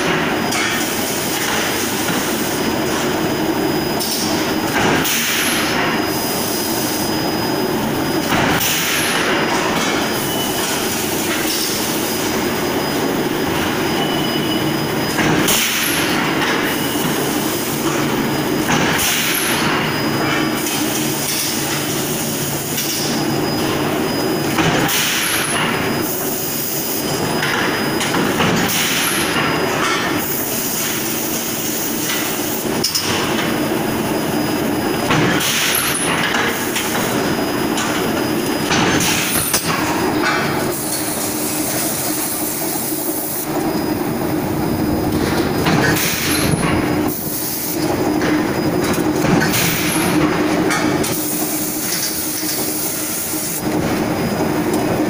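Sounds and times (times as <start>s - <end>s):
industrial fan running: 0.0s - 55.0s.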